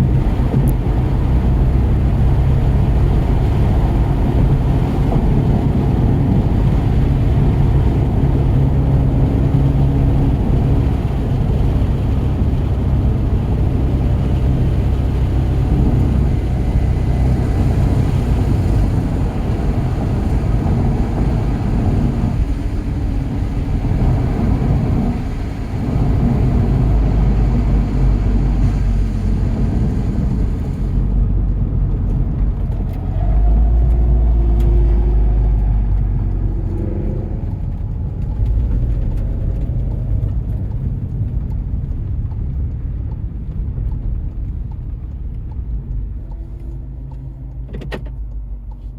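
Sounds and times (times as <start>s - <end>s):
car engine running hard: 0.0s - 48.9s
road and wind noise: 0.0s - 48.9s.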